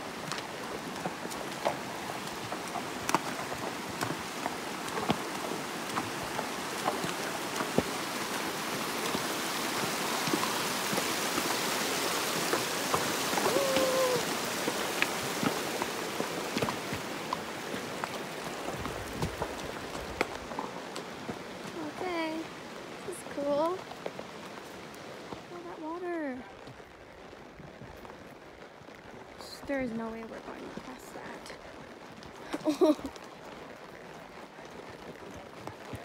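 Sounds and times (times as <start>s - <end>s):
creek water running over rocks: 0.0s - 36.0s
horse hooves clicking on stones: 0.0s - 36.0s.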